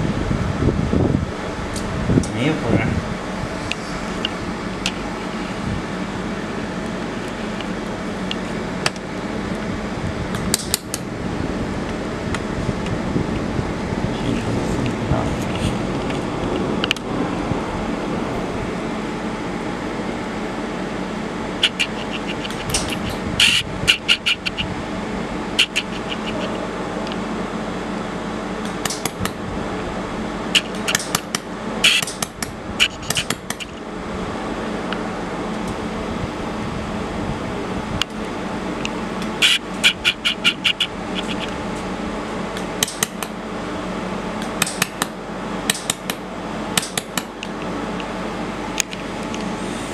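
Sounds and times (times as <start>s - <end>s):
machine hum: 0.0s - 49.9s.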